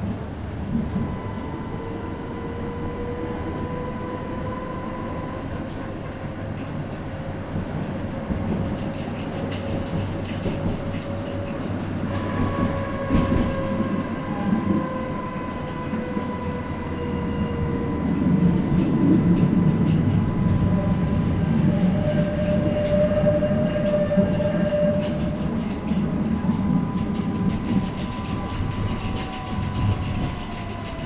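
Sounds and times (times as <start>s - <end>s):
tram car and wheels rumbling: 0.0s - 31.0s.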